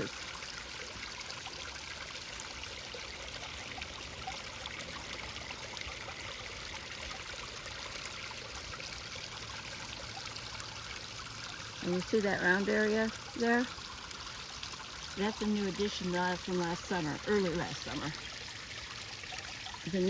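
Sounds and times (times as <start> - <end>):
water rushing over stones: 0.0 - 20.0.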